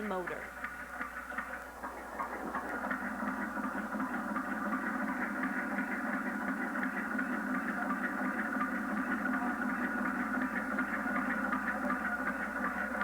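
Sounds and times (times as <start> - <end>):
model engine whirring with ticks: 0.0 - 13.0.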